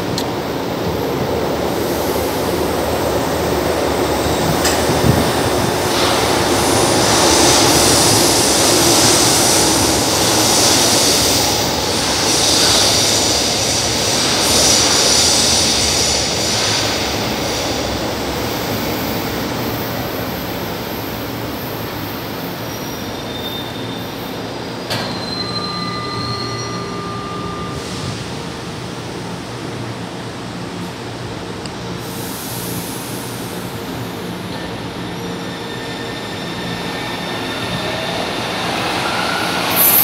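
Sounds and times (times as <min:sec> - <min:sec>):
train rumbling into tunnel: 0:00.0 - 0:40.0.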